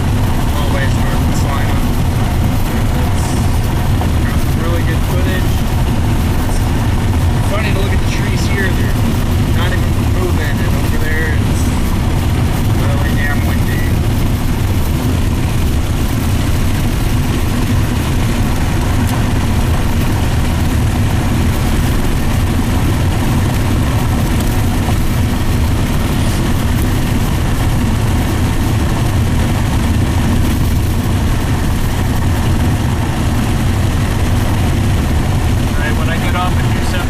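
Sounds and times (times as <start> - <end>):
car cabin road noise: 0.0 - 37.0.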